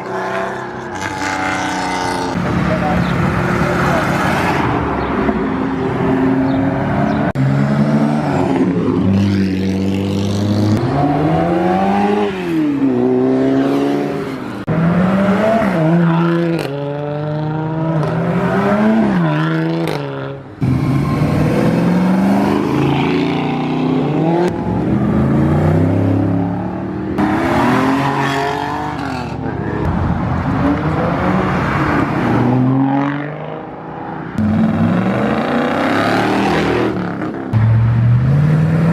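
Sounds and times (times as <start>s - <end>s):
car engines accelerating hard: 0.0s - 38.9s.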